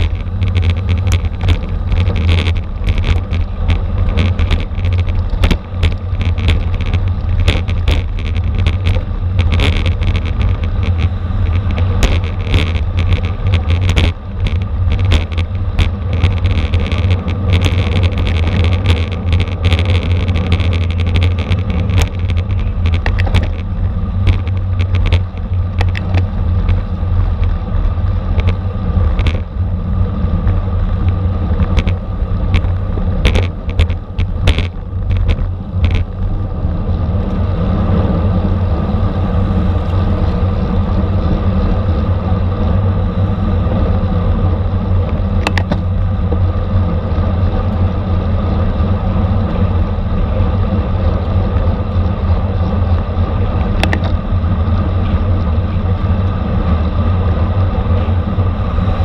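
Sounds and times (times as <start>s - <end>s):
road rumble: 0.0s - 59.0s
sharp clicks and rattles: 0.0s - 59.0s
wind buffeting microphone: 0.0s - 59.0s.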